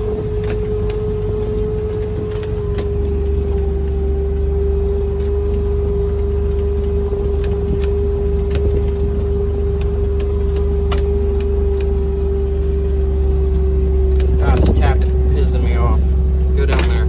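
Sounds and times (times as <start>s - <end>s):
steady whine: 0.0s - 17.0s
vehicle body rattling over bumps: 0.0s - 17.0s
vehicle engine drone: 0.0s - 17.0s.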